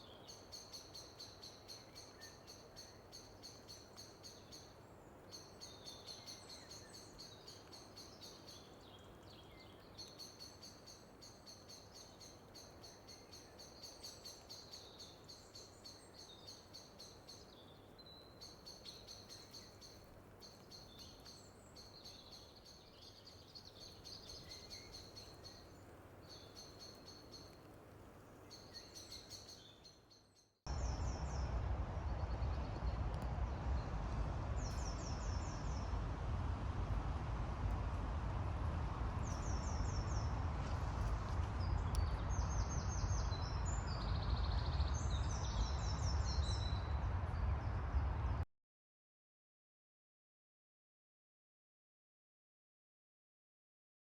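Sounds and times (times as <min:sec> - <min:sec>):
low steady hiss: 0:00.0 - 0:48.4.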